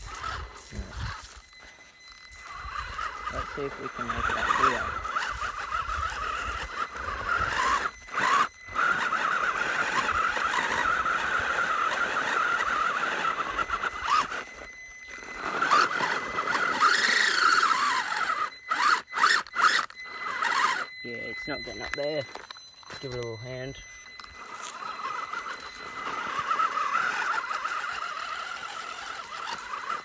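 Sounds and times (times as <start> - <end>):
electric motor and gears whining: 0.0 - 30.0.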